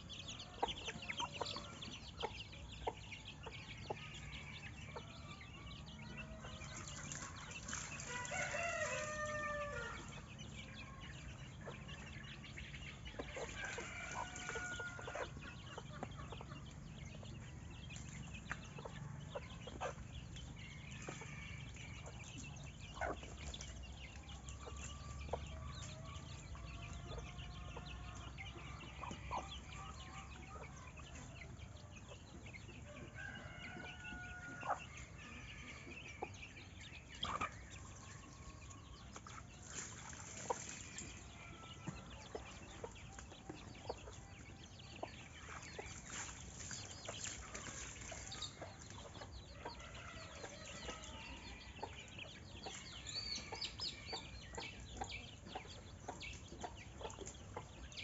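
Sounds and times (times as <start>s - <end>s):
birds chirping: 0.0s - 58.0s
chickens clucking: 0.0s - 58.0s.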